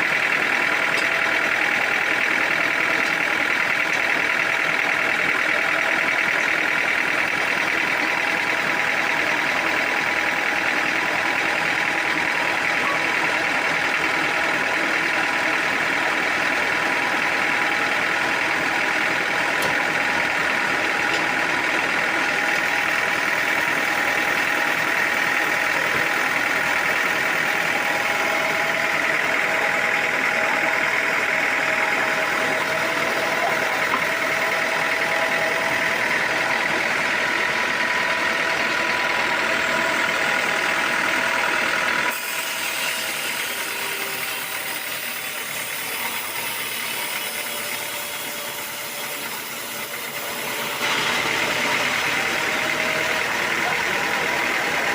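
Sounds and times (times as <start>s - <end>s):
sawmill machinery drone: 0.0s - 54.9s.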